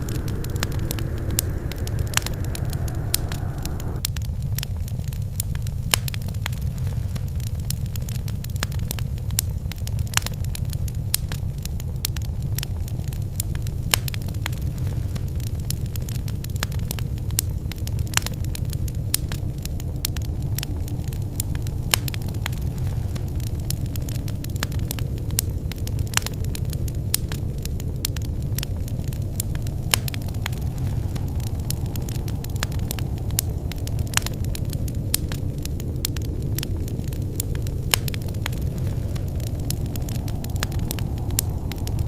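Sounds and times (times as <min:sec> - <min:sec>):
hiss of flames: 0:00.0 - 0:42.0
low rumble of burning: 0:00.0 - 0:42.0
sharp pops and snaps: 0:00.0 - 0:42.0
wood fire crackling: 0:00.0 - 0:42.0.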